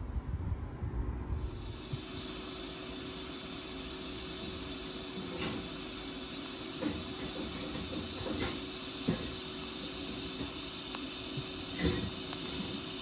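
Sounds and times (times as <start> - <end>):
welding arc hissing: 1.3 - 13.0.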